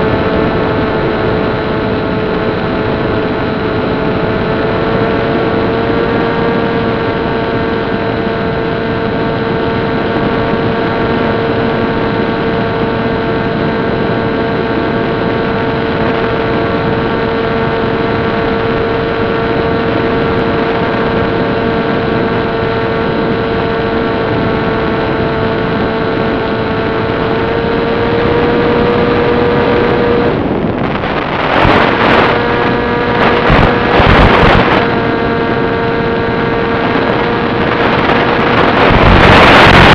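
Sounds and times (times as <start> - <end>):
electric motor and propeller whine: 0.0 - 39.9
radio static bursts: 0.0 - 39.9.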